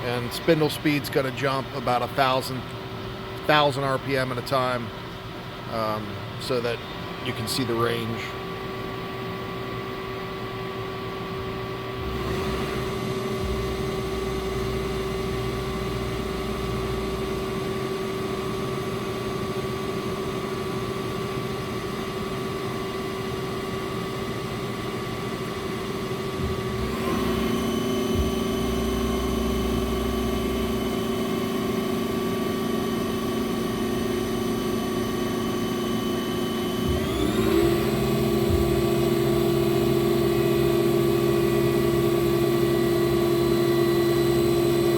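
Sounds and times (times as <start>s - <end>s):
lathe spindle whine: 0.0s - 44.9s.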